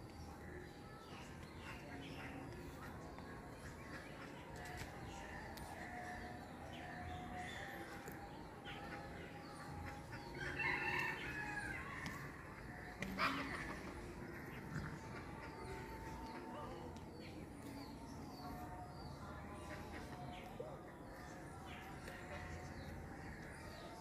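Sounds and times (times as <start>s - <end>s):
faint outdoor background: 0.0s - 24.0s.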